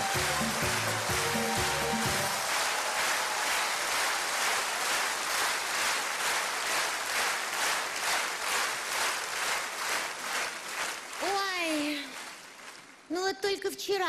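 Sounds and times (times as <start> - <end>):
audience clapping rhythmically: 0.0 - 13.1.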